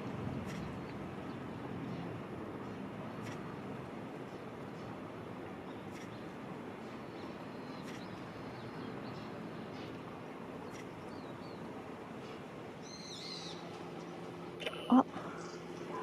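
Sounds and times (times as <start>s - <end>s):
low background hum: 0.0s - 16.0s
songbirds calling: 0.0s - 16.0s.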